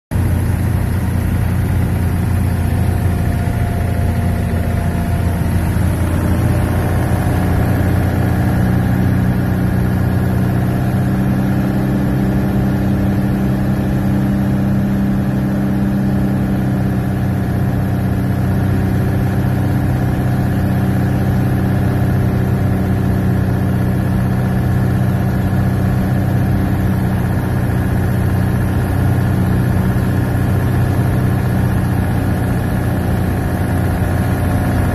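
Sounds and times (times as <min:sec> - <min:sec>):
plane engine drone in cabin: 0:00.1 - 0:34.9.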